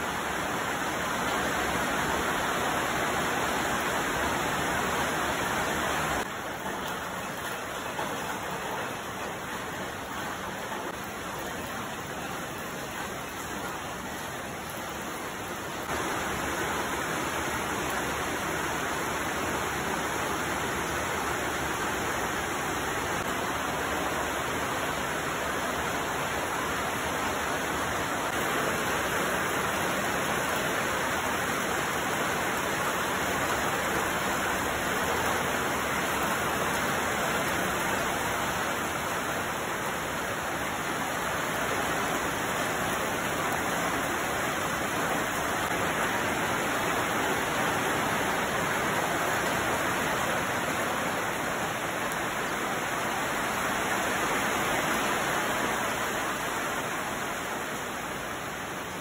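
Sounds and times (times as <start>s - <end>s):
steady rain on leaves and roofs: 0.0s - 59.0s.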